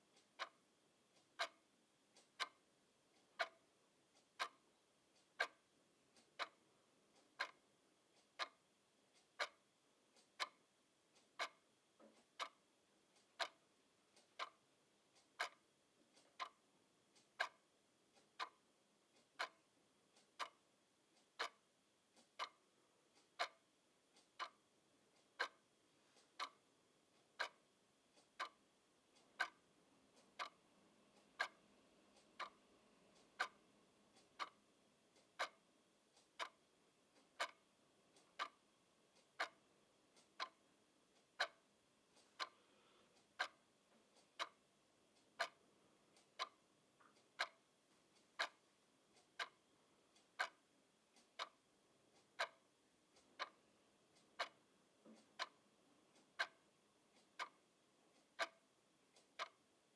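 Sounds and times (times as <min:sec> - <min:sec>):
clock ticking: 0:00.0 - 0:59.9
faint clock click: 0:00.0 - 0:59.9.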